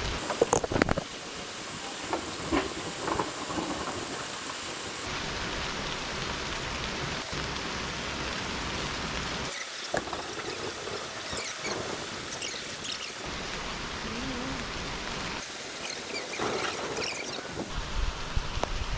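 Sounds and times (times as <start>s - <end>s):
steady rain hissing: 0.0s - 18.9s.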